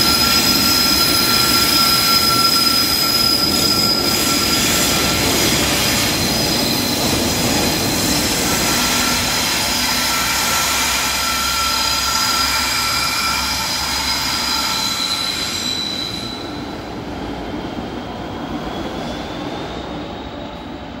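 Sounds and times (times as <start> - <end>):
low train rumble: 0.0 - 21.0
train wheels squealing: 0.0 - 21.0.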